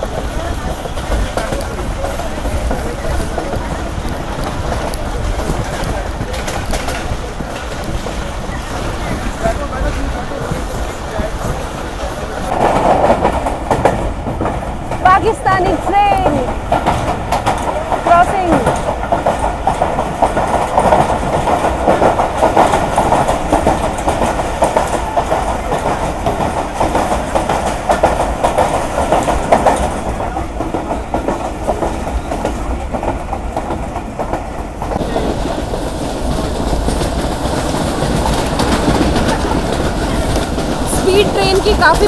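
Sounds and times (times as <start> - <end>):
carriage rumble and rattle: 0.0 - 42.0
train wheels clattering over rails: 0.0 - 42.0.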